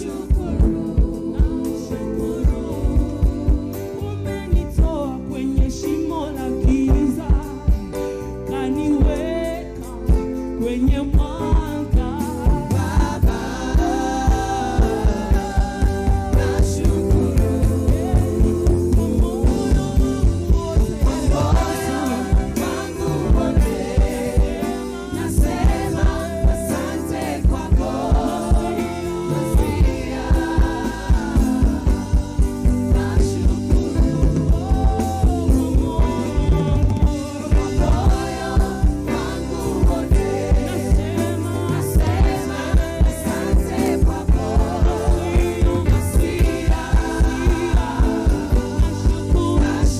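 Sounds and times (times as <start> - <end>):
drum kit: 0.0 - 49.9
singers: 0.0 - 49.9
upbeat gospel band: 0.0 - 49.9.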